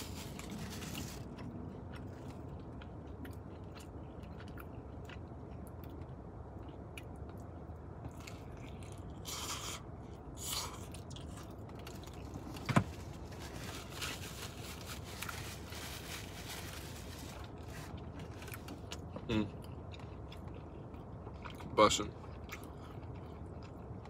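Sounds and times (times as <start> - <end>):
chewing and crunching pizza crust: 0.0 - 24.0.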